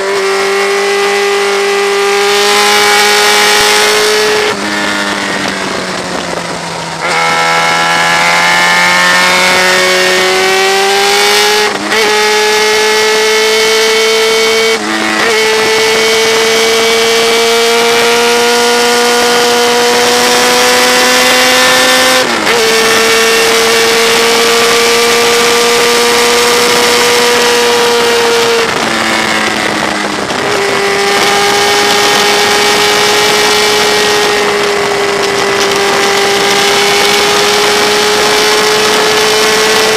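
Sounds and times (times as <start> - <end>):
motorcycle engine running hard: 0.0 - 39.9
rushing wind: 0.0 - 39.9.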